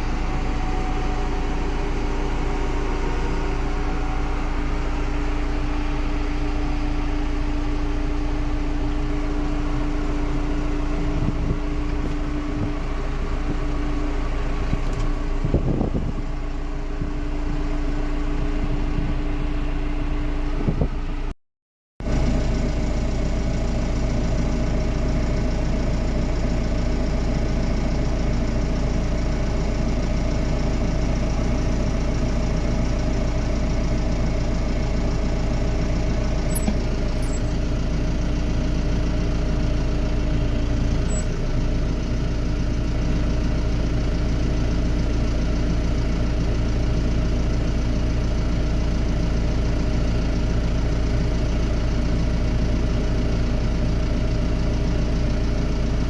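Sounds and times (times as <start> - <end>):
diesel engine idling: 0.0 - 21.2, 22.0 - 56.0.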